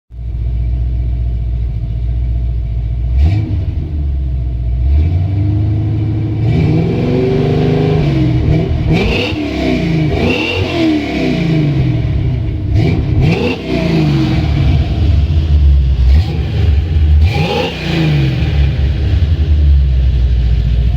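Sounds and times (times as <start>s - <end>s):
truck engine idling and revving: 0.1s - 20.9s.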